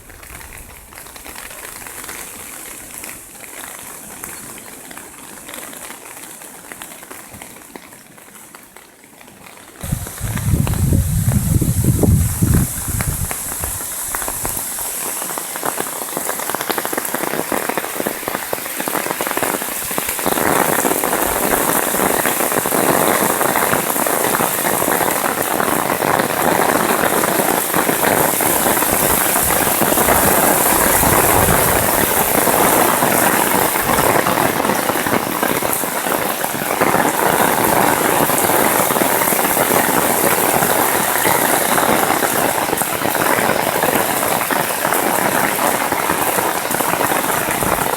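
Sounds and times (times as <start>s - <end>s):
heavy rain: 0.0s - 47.9s.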